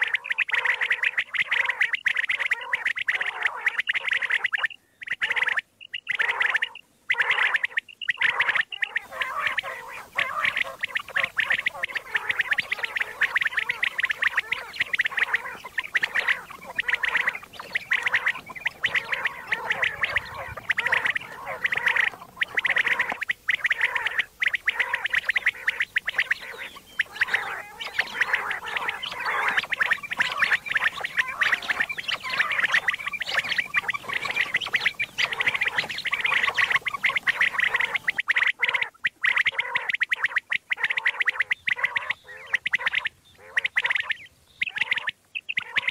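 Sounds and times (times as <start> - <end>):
quail chattering calls: 0.0 - 45.9.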